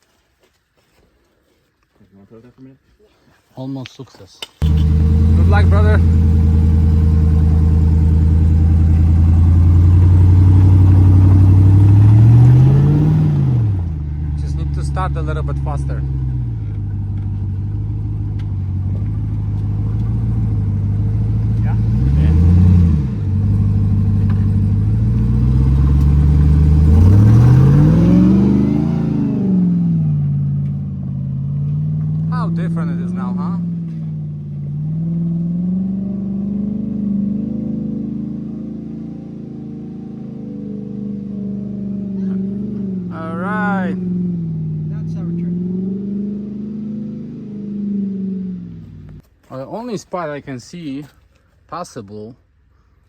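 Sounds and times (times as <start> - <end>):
pickup truck engine revving: 4.6 - 49.2.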